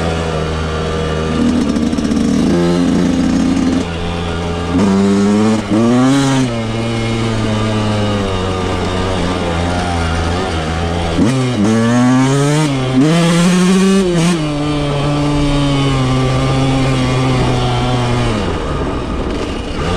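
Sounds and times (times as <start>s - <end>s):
motocross engine revving: 0.0s - 19.9s.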